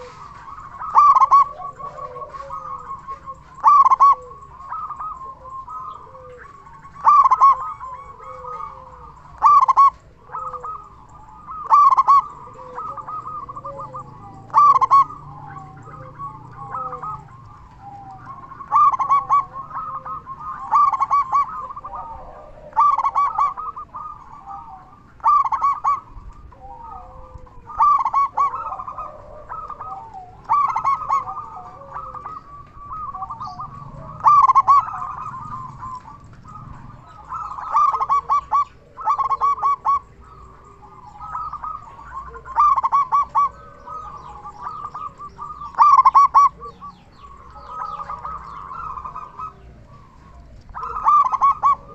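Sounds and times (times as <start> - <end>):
dove cooing: 0.0 - 51.9
soft dove calls: 0.0 - 51.9.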